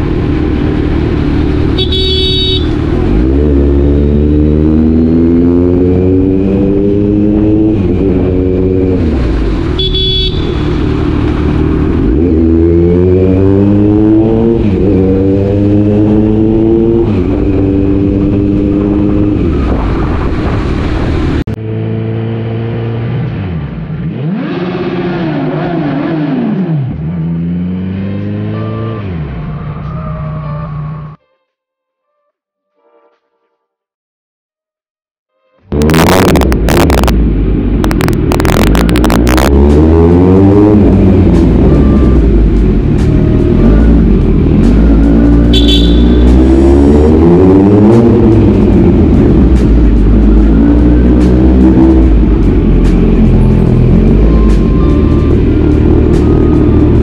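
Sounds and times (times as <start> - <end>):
motorcycle engine accelerating: 0.0 - 31.2, 35.7 - 57.0.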